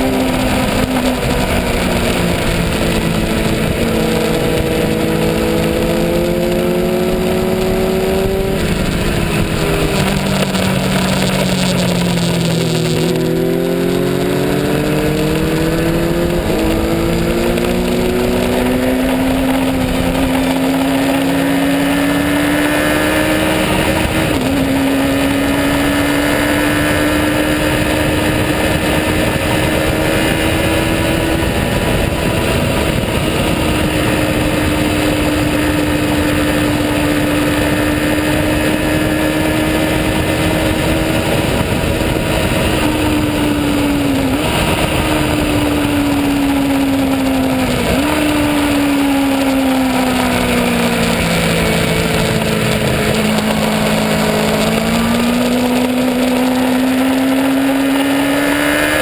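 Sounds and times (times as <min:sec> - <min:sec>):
racing motorcycle engine: 0:00.0 - 0:59.0
wind rushing: 0:00.0 - 0:59.0.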